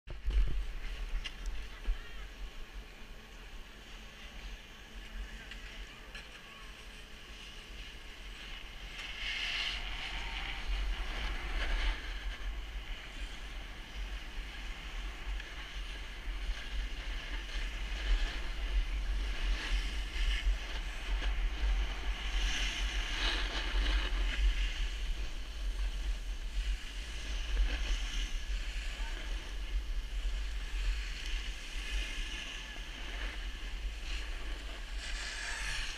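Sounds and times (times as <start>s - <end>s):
skis scraping on packed snow: 0.2s - 35.9s.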